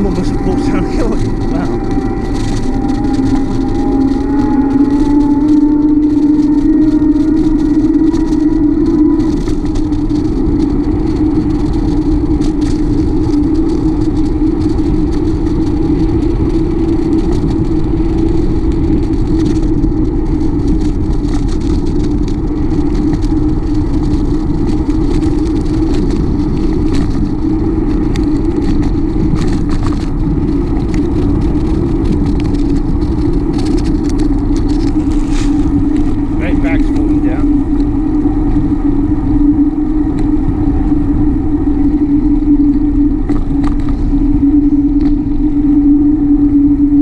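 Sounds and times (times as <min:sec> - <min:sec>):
constant hum: 0:00.0 - 0:47.0
wind rumble on microphone: 0:00.0 - 0:47.0.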